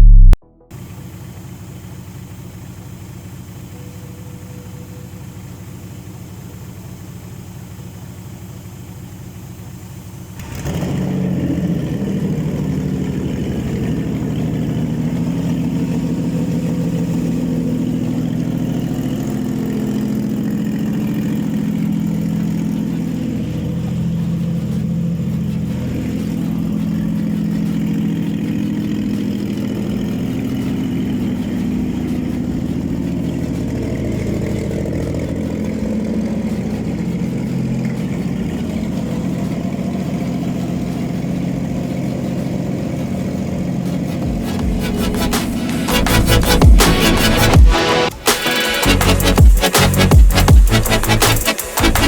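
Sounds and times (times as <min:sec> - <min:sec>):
engine running loudly: 0:02.9 - 0:52.0.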